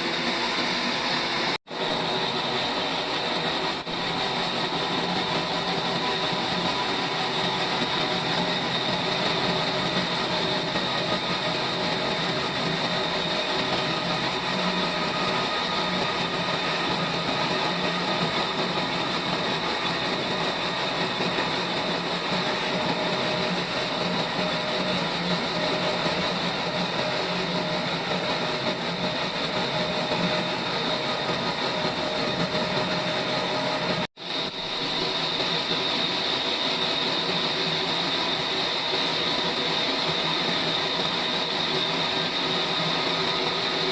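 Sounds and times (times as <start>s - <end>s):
sawmill machinery humming: 0.0s - 43.9s.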